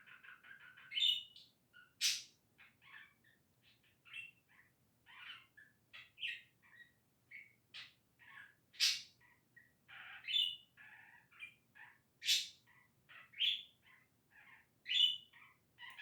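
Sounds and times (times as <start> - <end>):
budgerigar chirping and warbling: 0.0 - 16.0.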